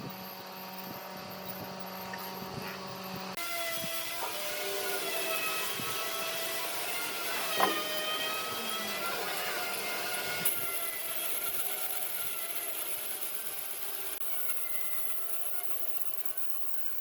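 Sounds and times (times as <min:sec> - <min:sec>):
power saw cutting wood: 0:00.0 - 0:16.4.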